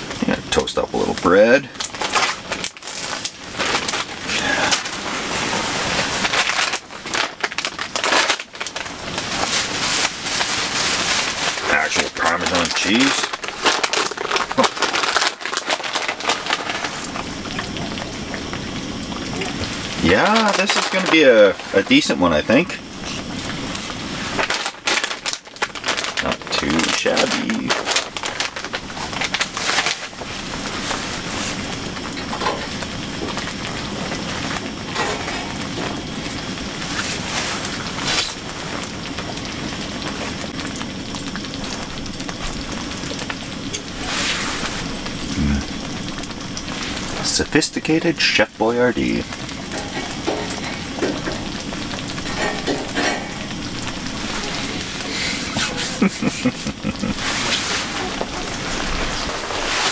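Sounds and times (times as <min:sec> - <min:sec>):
propane heater hissing: 0:00.0 - 0:59.9
plastic bag crinkling: 0:00.2 - 0:59.9.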